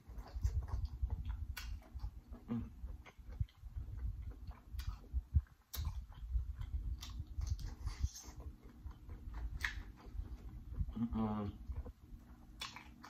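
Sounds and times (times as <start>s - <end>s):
chewing and lip smacking: 0.0s - 13.0s
sticky mouth clicks: 0.1s - 11.9s.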